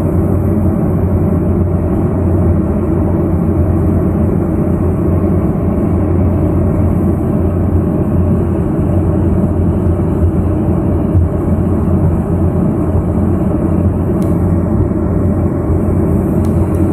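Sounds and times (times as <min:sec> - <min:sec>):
turboprop engines droning: 0:00.0 - 0:16.9.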